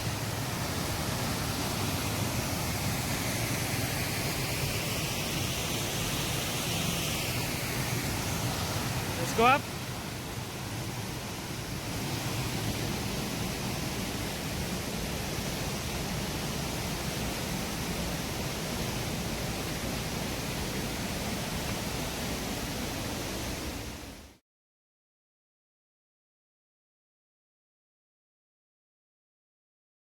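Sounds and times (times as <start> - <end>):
waterfall roaring: 0.0 - 24.3.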